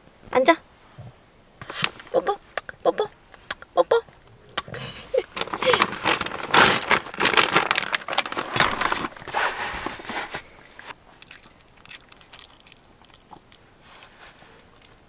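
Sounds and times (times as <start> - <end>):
dog crunching a chew treat: 1.7 - 10.0, 10.6 - 15.0.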